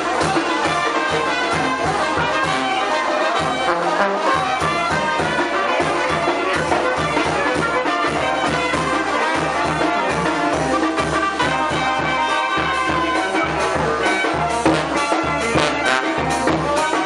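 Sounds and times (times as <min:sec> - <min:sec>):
music with brass: 0:00.0 - 0:17.0.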